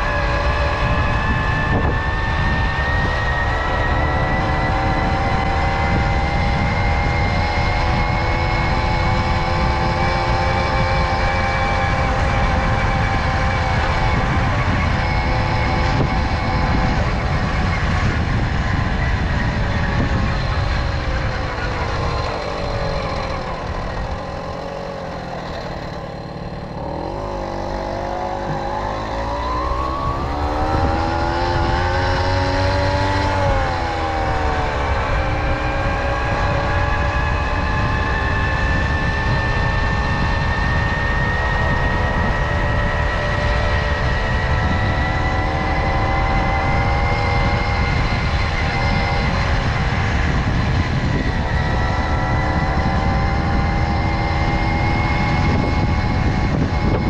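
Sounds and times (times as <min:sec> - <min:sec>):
moped engine revving: 0:00.0 - 0:57.0
wind and road noise: 0:00.0 - 0:57.0.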